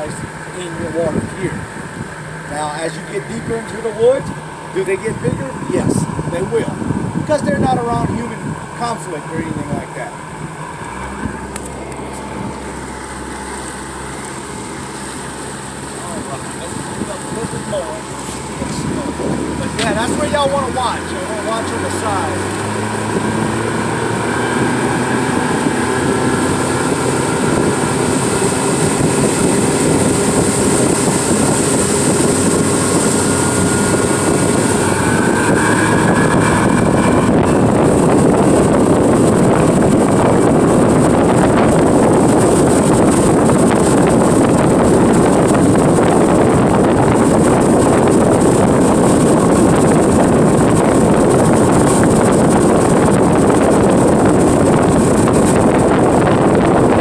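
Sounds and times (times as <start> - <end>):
boat engine running: 0.0 - 57.0
wind noise: 0.0 - 57.0.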